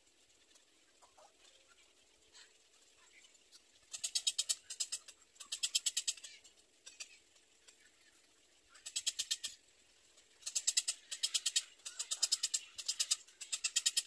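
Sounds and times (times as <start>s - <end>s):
rapid ticking bird calls: 0.6s - 14.0s.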